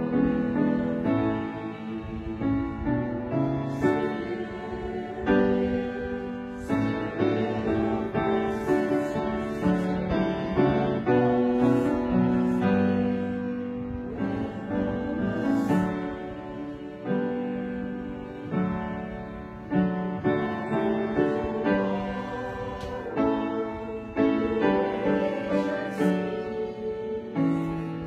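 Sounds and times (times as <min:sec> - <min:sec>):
hymn with piano: 0:00.0 - 0:28.0.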